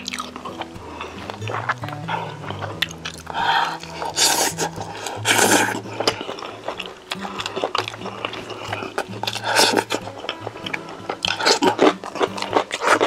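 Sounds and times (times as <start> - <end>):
soft background music: 0.0 - 13.0
wet chewing: 0.0 - 13.0.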